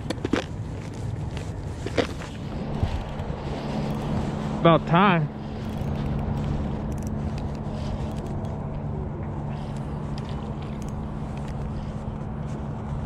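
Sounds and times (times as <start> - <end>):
low outdoor rumble: 0.0 - 13.0
faint hum: 1.4 - 13.0.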